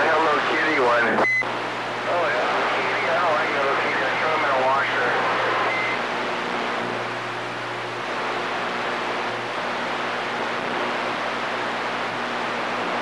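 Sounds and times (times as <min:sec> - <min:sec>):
low electrical hum: 0:00.0 - 0:13.0
radio static hiss: 0:00.0 - 0:13.0.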